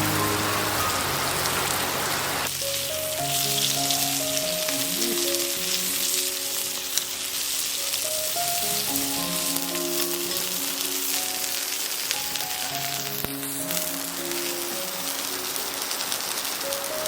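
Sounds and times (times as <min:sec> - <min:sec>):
background music with held notes: 0:00.0 - 0:17.0
food sizzling on charcoal grill: 0:00.0 - 0:17.0.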